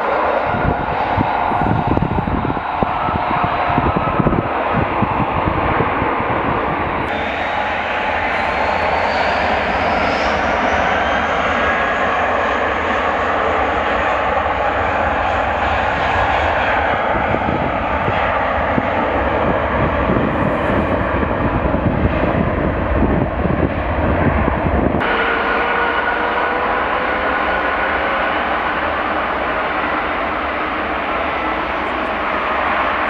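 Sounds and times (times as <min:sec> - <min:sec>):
high engine whine: 0:00.0 - 0:33.0
jet engines running: 0:00.0 - 0:33.0.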